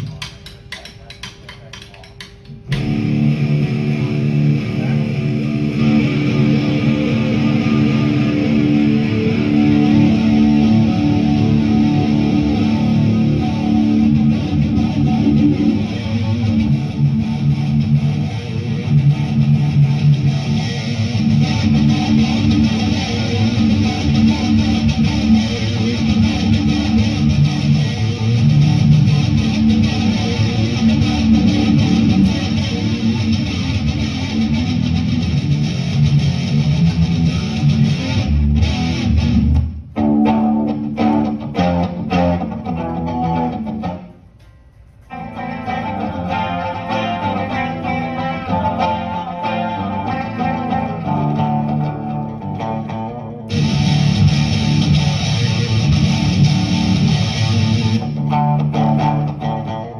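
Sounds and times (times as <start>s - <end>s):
electric guitar through amplifier: 0.0s - 59.9s.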